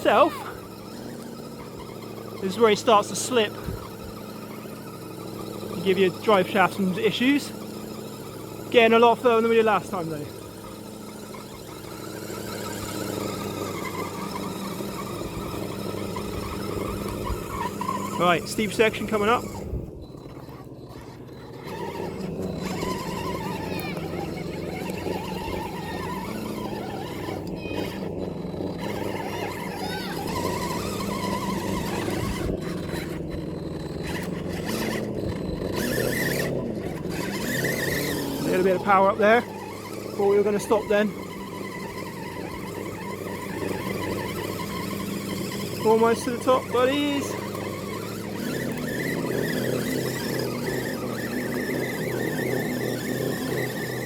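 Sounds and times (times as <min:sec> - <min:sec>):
toy car electric motor whining: 0:00.0 - 0:54.0.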